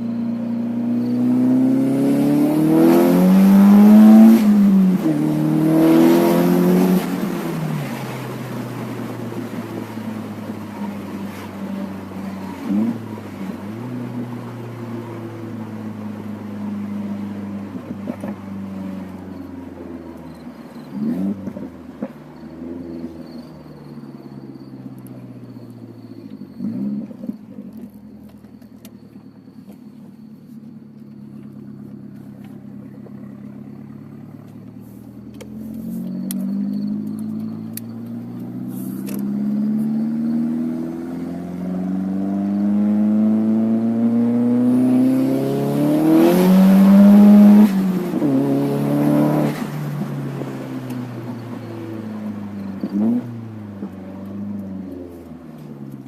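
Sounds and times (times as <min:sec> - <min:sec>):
car engine idling with throttle blips: 0:00.0 - 0:56.0.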